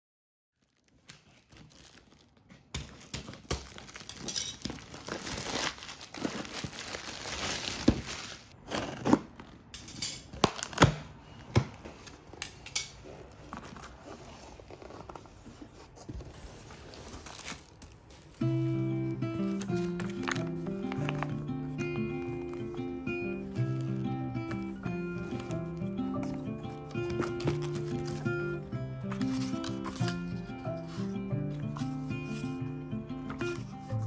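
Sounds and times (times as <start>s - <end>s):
wrapping crinkling and rustling: 0.5s - 9.7s, 10.3s - 32.6s.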